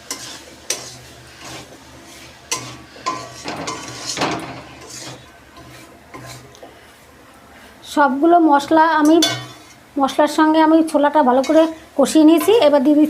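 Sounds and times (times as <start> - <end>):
spatula stirring and scraping pan: 0.0 - 13.0.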